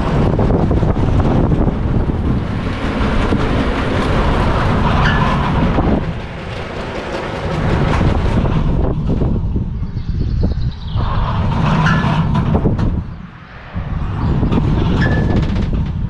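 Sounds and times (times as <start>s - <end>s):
coaster car wheels rumbling: 0.0s - 16.0s.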